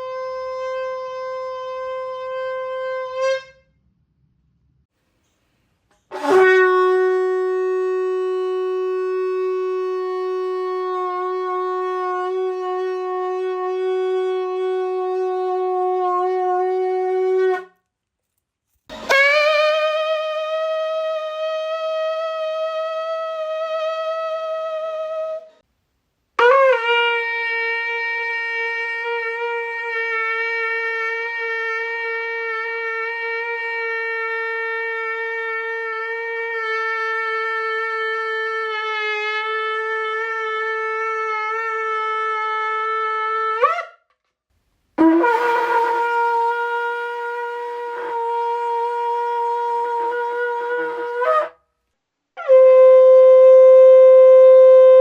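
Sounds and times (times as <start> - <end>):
shofar blasts: 0.0 - 3.8, 6.0 - 17.9, 18.9 - 25.6, 26.4 - 44.0, 45.0 - 51.6, 52.4 - 55.0.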